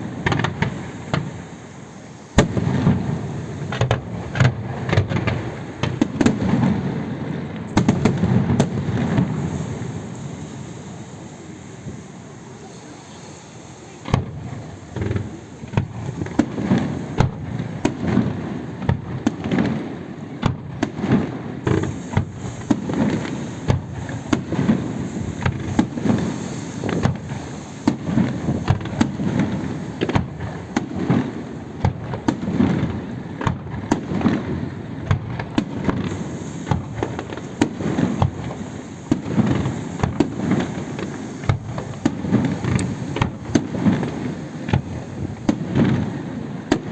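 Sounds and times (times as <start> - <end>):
fireworks bangs and booms: 0.0 - 46.9.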